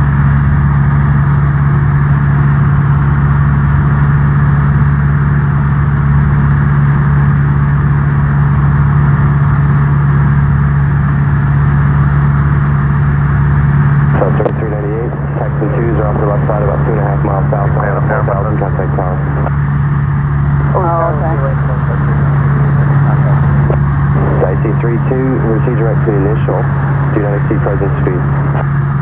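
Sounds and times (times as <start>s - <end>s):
airplane engine droning in cabin: 0.0s - 29.0s.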